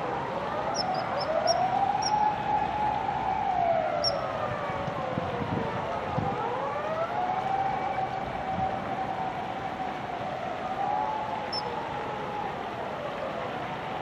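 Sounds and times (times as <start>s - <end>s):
distant siren wailing: 0.0s - 14.0s.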